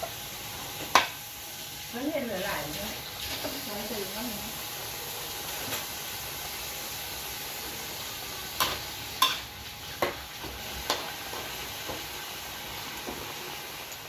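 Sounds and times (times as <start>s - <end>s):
food sizzling in a hot pan: 0.0s - 14.0s.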